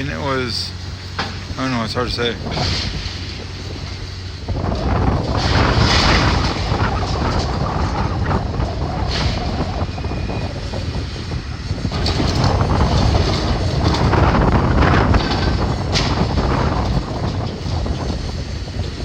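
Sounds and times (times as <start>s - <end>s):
demolition machine engine rumble: 0.0s - 19.0s
debris crunching and clattering: 1.1s - 19.0s.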